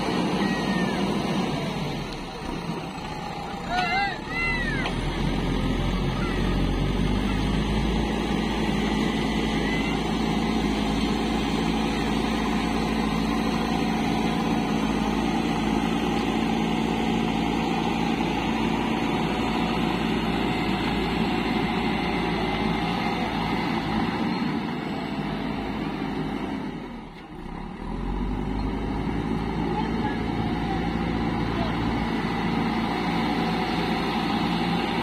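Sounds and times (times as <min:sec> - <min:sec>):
engine running: 0:00.0 - 0:35.0.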